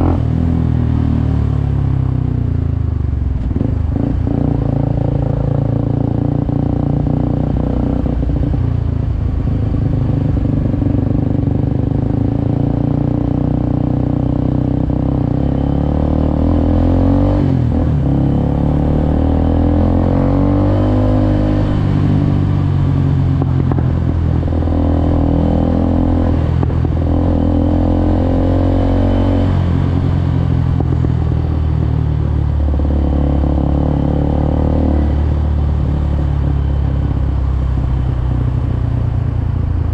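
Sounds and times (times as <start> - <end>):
motorcycle engine revving: 0.0 - 2.6, 9.4 - 39.9.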